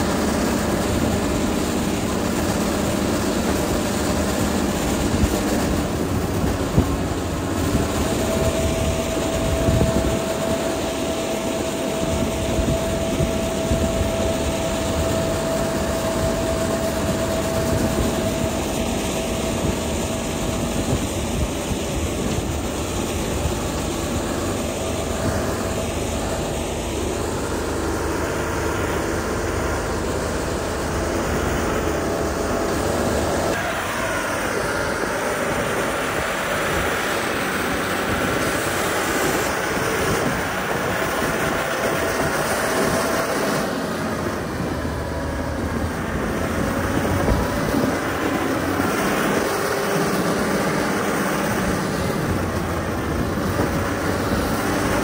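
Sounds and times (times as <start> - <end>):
diesel grader engine running: 0.0 - 55.0.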